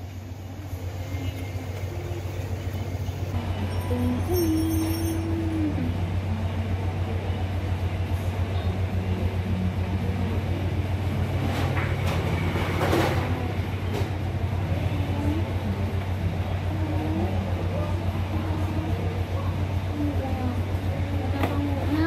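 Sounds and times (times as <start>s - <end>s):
low fluttering hum: 0.0s - 22.0s.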